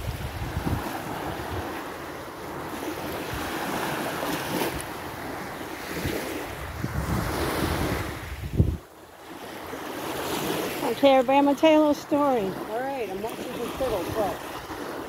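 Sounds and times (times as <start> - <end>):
wind buffeting microphone: 0.0 - 9.0, 10.2 - 15.0
small waves washing on shore: 0.0 - 15.0.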